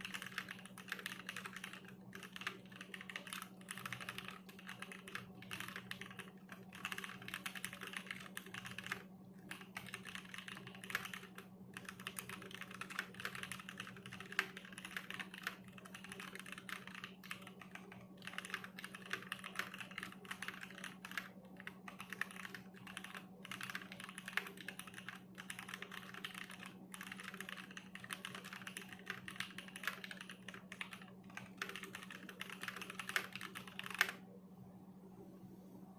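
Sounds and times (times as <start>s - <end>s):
mechanical keyboard typing: 0.0s - 34.2s.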